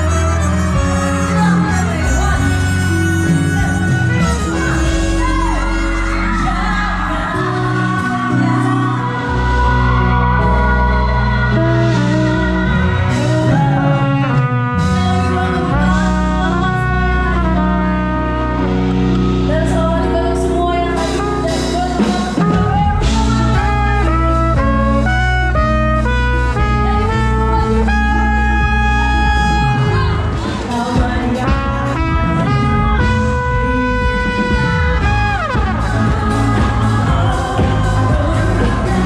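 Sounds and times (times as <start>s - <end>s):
bass and drums: 0.0s - 39.0s
saxophone: 0.0s - 39.0s
trumpet melody: 0.0s - 39.0s.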